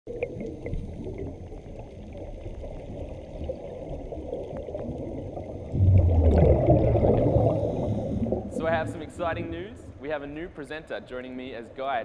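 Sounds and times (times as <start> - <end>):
muffled underwater rushing water: 0.1 - 11.0.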